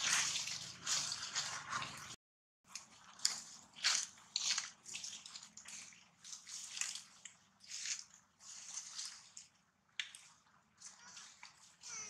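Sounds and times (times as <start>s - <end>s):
monkey eating wet food: 0.0s - 12.0s.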